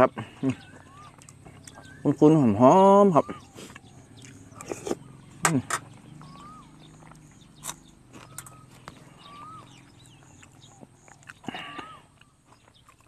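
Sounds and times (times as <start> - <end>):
chewing with mouth closed: 0.4 - 2.0, 3.4 - 5.2, 5.9 - 13.0.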